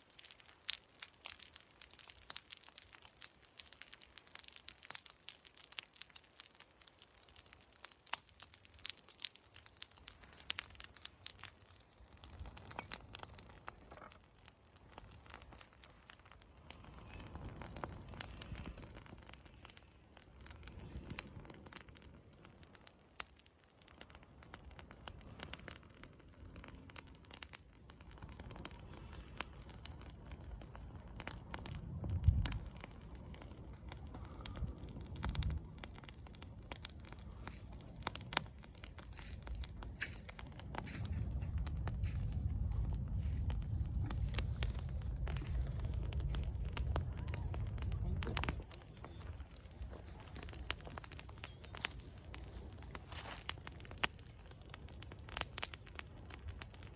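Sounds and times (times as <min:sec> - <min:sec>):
straw and leaves burning: 0:00.0 - 0:56.9
wind rumbling on microphone: 0:09.7 - 0:22.9, 0:24.0 - 0:56.9.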